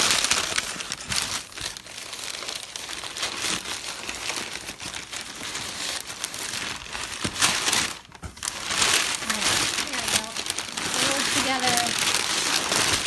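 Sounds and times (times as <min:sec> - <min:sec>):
packaging crinkling and rustling: 0:00.0 - 0:13.0
packaging crunch: 0:00.0 - 0:13.0.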